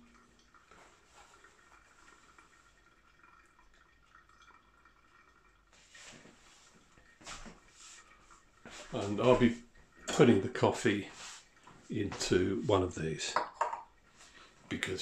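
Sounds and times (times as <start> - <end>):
coffee dripping through a filter: 0.0 - 15.0.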